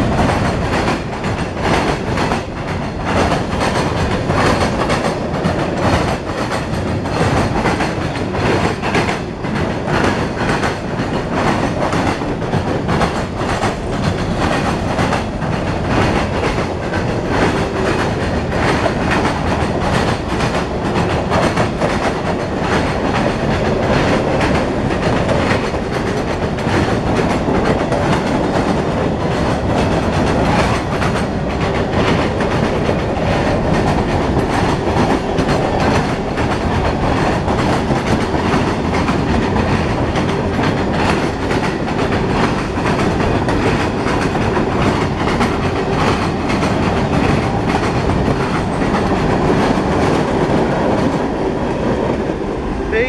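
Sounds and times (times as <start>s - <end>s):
freight train wheels rumbling: 0.0s - 53.0s
wheels clickety-clack: 0.0s - 53.0s.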